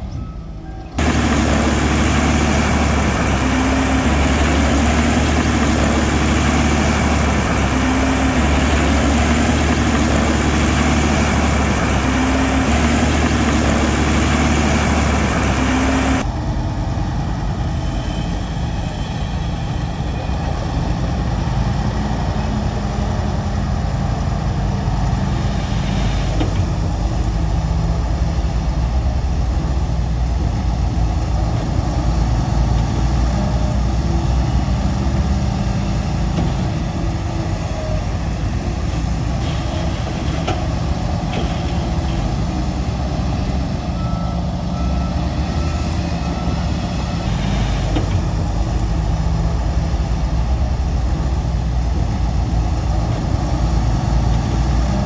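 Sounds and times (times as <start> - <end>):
heavy machinery diesel engine running: 0.8 - 55.0.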